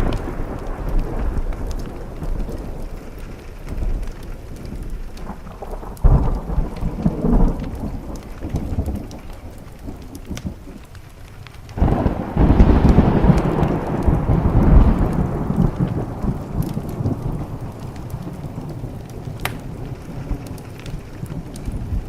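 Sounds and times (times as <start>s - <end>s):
steady rain: 0.0s - 22.0s
thunder rumbling: 0.0s - 22.0s
wood fire crackling: 0.0s - 22.0s.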